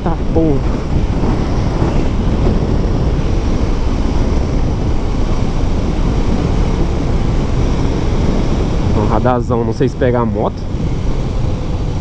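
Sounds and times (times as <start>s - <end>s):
motorcycle engine: 0.0s - 12.0s
wind rushing on microphone: 0.0s - 12.0s.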